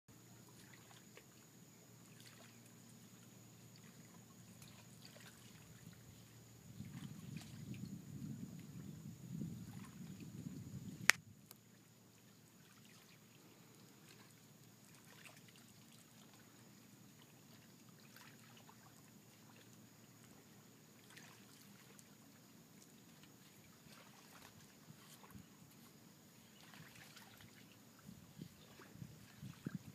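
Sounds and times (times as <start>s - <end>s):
small waves lapping: 0.2s - 7.8s, 9.6s - 10.3s, 11.5s - 29.9s.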